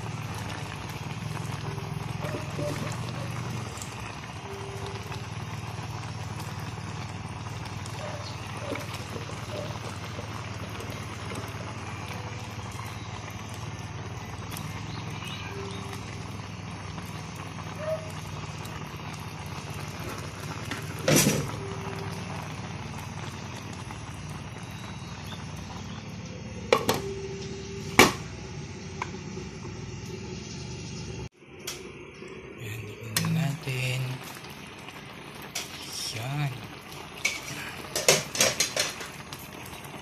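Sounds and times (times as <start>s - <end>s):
broth bubbling in a pan: 0.0s - 40.0s.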